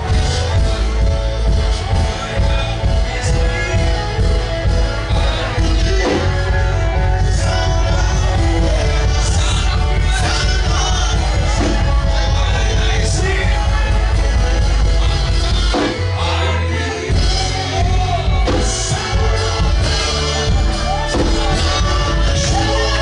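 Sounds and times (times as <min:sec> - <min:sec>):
gospel worship music with singing: 0:00.0 - 0:23.0
people shouting: 0:00.0 - 0:23.0.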